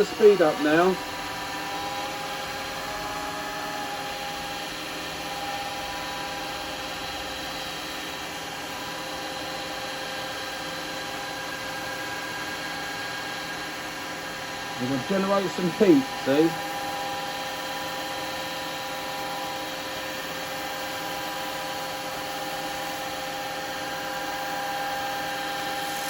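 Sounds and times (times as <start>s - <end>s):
wood lathe motor whine: 0.0s - 26.0s.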